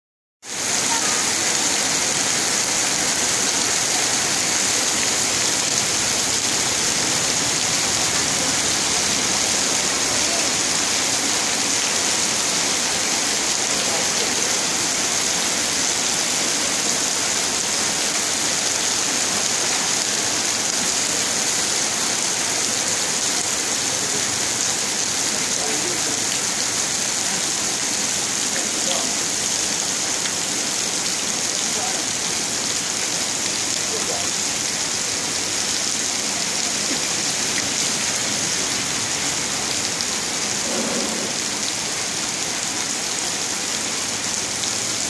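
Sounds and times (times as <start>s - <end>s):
heavy rain on wet pavement: 0.4s - 45.0s.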